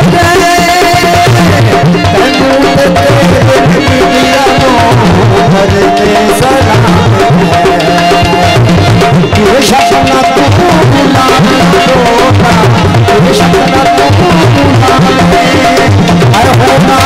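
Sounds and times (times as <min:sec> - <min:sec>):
folk music with hand drum: 0:00.0 - 0:17.0.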